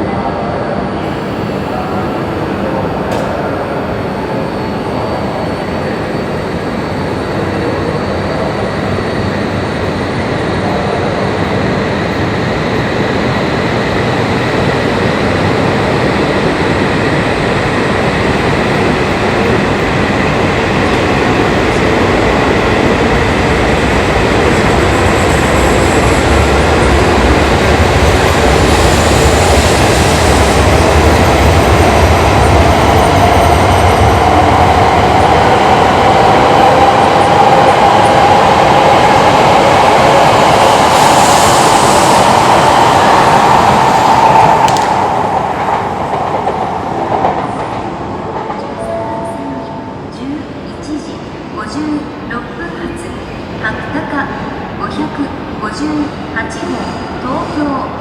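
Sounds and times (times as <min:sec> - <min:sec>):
high-speed train running: 0:00.0 - 0:58.0.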